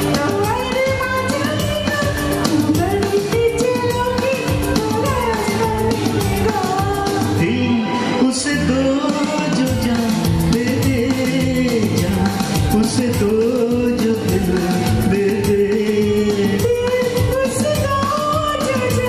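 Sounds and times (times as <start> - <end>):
karaoke backing track: 0.0 - 19.0
man and woman singing duet: 0.0 - 19.0.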